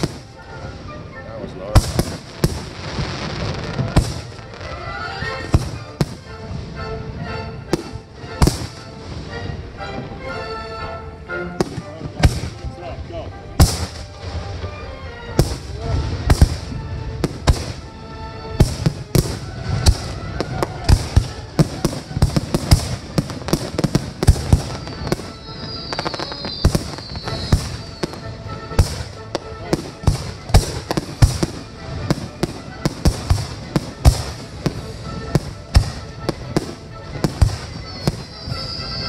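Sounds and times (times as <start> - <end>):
fireworks bursting with bangs: 0.0 - 1.0, 1.6 - 10.1, 11.6 - 12.8, 13.6 - 39.0.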